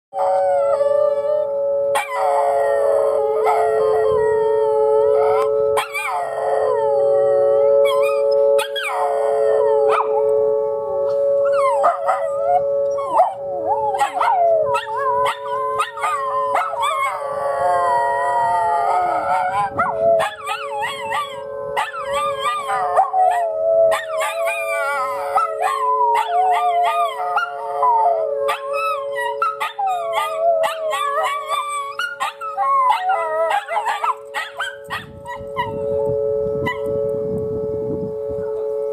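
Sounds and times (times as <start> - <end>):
dogs howling: 0.2 - 37.1
tornado siren: 0.2 - 38.9.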